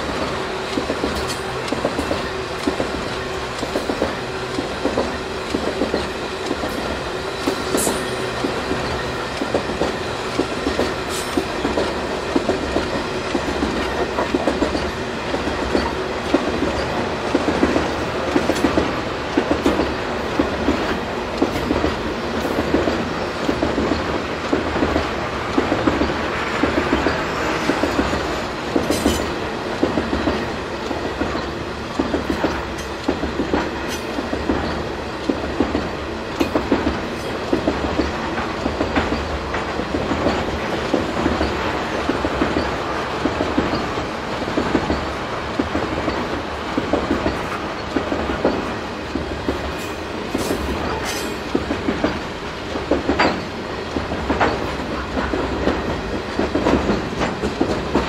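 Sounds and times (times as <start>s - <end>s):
freight train cars rumbling past: 0.0s - 58.0s
train wheels clicking: 0.0s - 58.0s.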